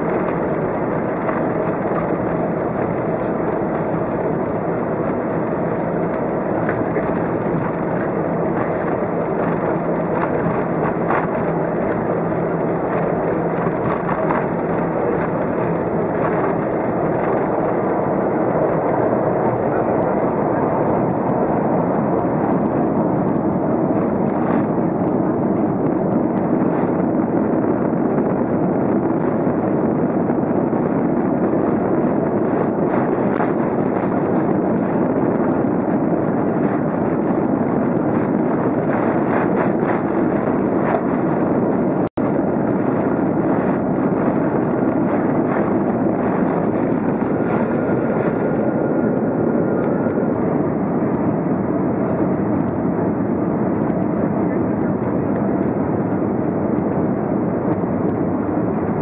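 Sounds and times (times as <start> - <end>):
jet engines roaring in cabin: 0.0 - 59.0.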